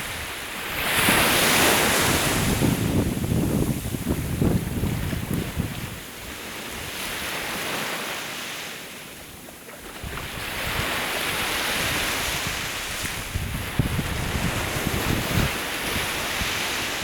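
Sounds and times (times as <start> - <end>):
wind buffeting microphone: 0.0 - 7.6, 9.9 - 17.0
sea waves washing onto shore: 0.0 - 17.0.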